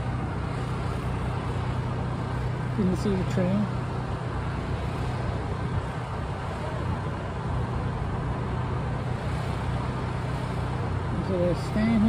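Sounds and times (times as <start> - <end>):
constant low hum: 0.0 - 12.0
distant vehicles rumbling: 0.0 - 12.0.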